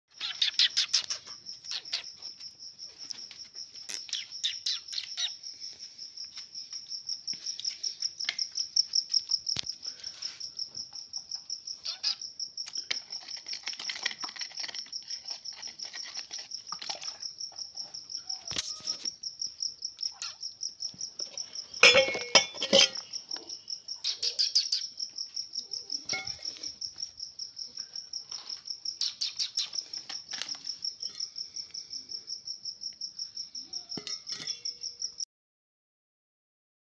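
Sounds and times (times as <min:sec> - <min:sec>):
cricket chirping trill: 0:00.1 - 0:35.3.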